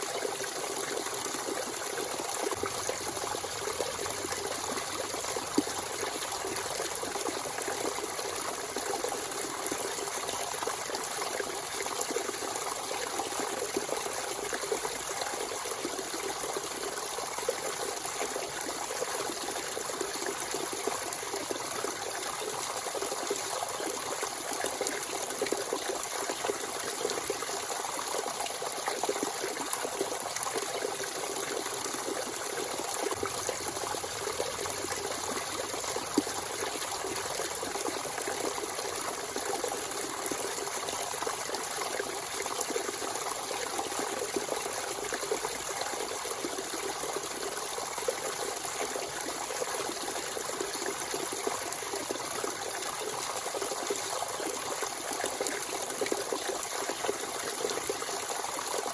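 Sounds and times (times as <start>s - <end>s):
spring water trickling and splashing: 0.0s - 58.9s.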